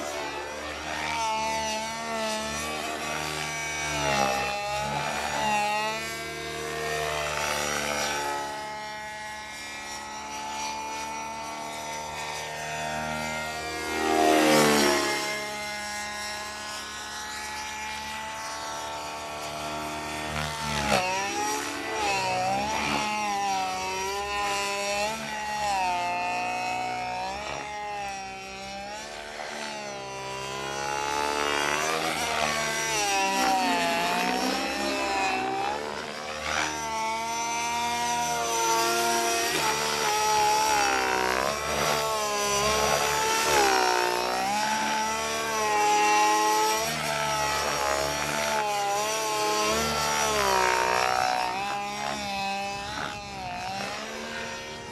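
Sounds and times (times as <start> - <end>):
model helicopter engine and rotors: 0.0 - 54.9.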